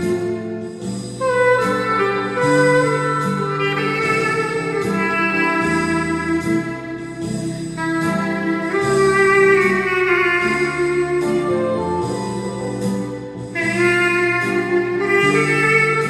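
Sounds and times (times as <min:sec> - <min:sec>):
clarinet playing slow melody: 0:00.0 - 0:16.0
lower accompanying notes: 0:00.0 - 0:16.0.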